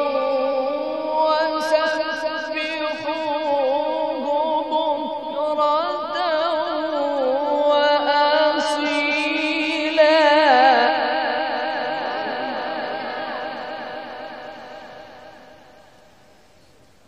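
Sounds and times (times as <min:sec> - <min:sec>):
man reciting with vibrato: 0:00.0 - 0:15.8.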